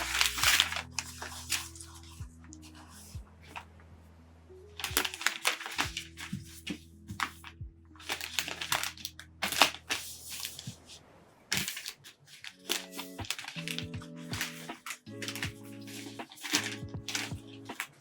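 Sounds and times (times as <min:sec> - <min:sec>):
flowers and stems crinkling: 0:00.0 - 0:03.8, 0:04.8 - 0:18.0
calm background music: 0:00.0 - 0:18.0.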